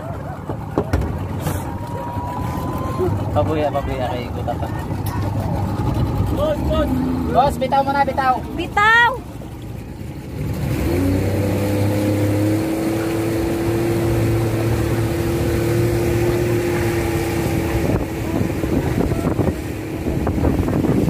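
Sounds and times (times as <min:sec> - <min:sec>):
boat engine running: 0:00.0 - 0:21.0
water noise: 0:00.0 - 0:21.0
wind: 0:00.0 - 0:21.0.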